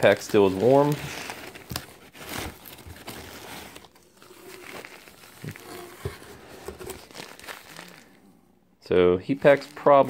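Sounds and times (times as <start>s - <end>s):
paper crinkling and rustling: 0.0s - 8.2s, 9.4s - 10.0s.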